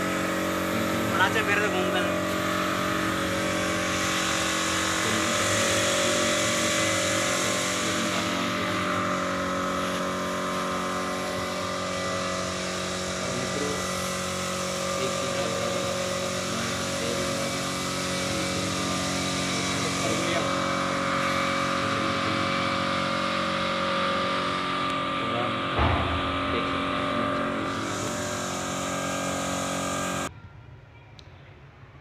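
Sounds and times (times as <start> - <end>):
motor humming: 0.0 - 30.3.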